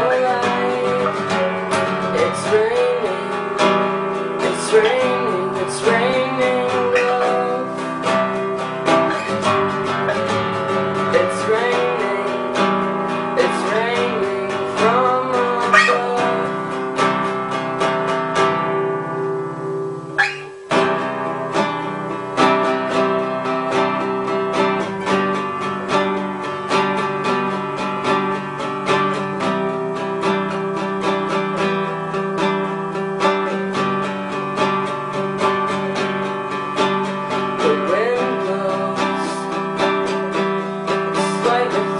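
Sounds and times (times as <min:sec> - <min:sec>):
acoustic guitar music: 0:00.0 - 0:41.9.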